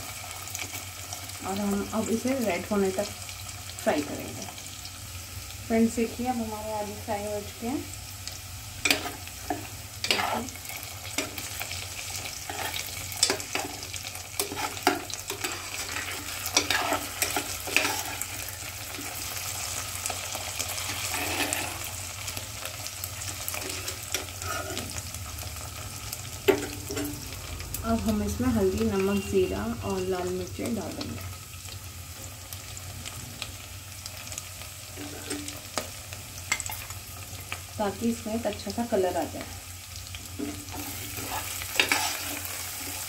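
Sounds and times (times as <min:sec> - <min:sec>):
vegetables sizzling in oil: 0:00.0 - 0:43.0.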